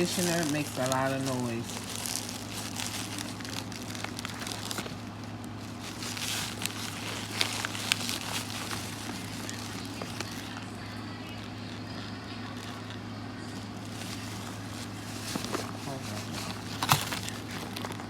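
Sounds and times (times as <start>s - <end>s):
air conditioner humming: 0.0s - 18.0s
paper bag crinkling: 0.0s - 18.0s.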